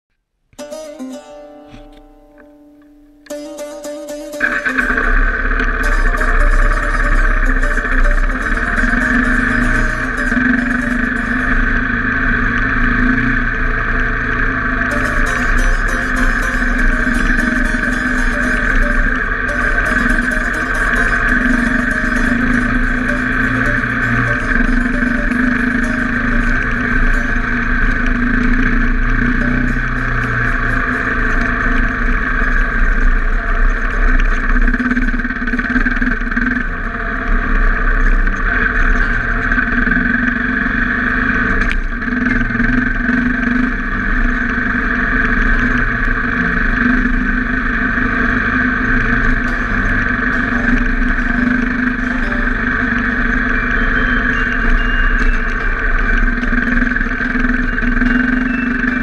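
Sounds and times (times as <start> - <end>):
motorcycle engine running under load: 0.6 - 59.0.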